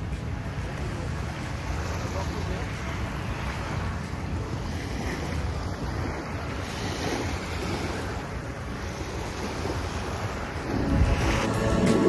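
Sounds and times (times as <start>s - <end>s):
small waves washing on beach: 0.0s - 12.0s
wind buffeting microphone: 0.0s - 12.0s.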